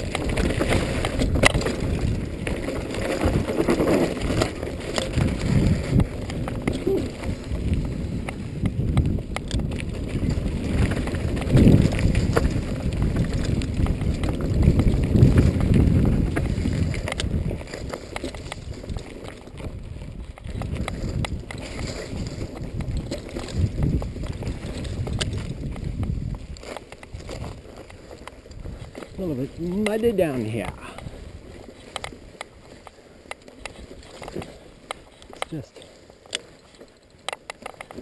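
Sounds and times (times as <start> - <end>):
wind buffeting microphone: 0.0 - 32.9
tyres rumbling on dirt: 0.0 - 33.0
bike clicking and rattling: 0.0 - 38.0.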